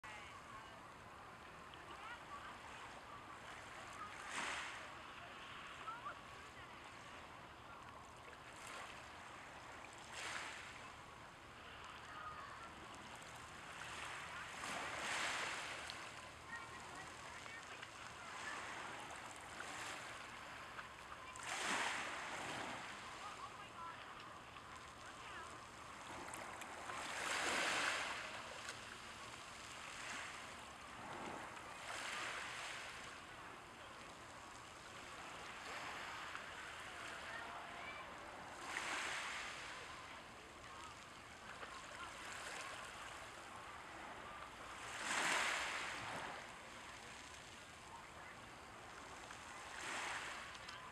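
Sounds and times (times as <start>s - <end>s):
small waves washing over stones: 3.4s - 5.8s, 12.0s - 50.9s.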